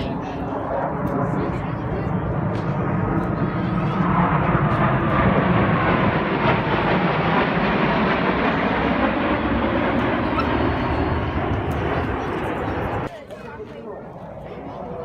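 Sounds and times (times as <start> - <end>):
jet flying past: 0.0 - 13.1.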